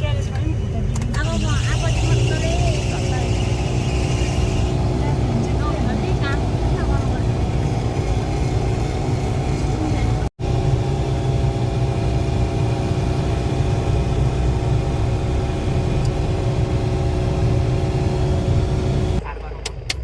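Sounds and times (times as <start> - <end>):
low road rumble: 0.0 - 20.0
vehicle engine hum: 0.0 - 20.0.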